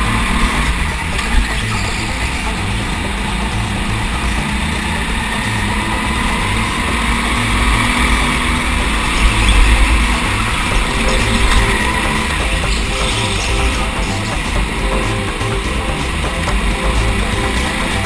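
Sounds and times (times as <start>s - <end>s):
go-kart engine racing: 0.0s - 18.0s.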